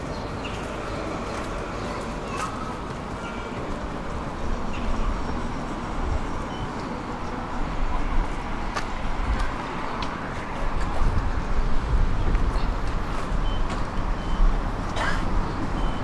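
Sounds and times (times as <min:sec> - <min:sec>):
tram wheels rumbling: 0:00.0 - 0:16.0.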